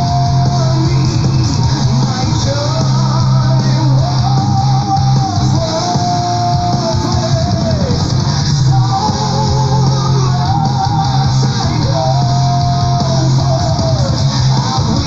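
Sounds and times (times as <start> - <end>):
prog metal music: 0.0 - 15.0.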